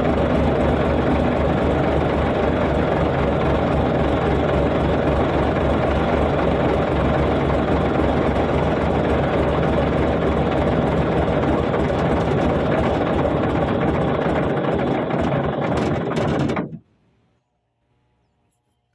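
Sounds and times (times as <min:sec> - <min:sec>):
bulldozer diesel engine idling: 0:00.0 - 0:16.6.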